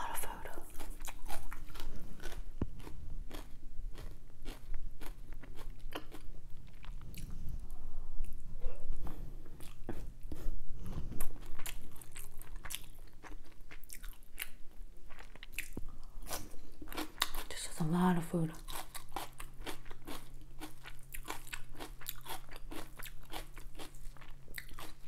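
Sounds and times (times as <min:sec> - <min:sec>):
person chewing food: 0:00.0 - 0:17.5, 0:18.6 - 0:25.0.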